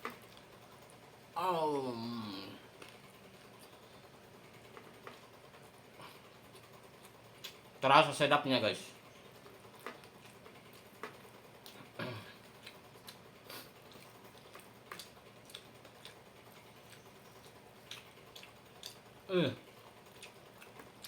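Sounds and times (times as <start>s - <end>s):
person chewing crispy food: 0.0s - 1.1s, 2.2s - 7.8s, 9.4s - 21.0s.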